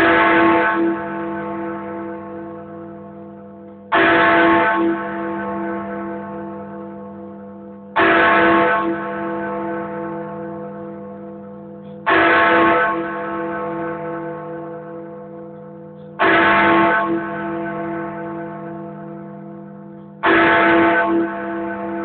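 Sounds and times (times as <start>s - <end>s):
large bell clanging: 0.0s - 22.0s.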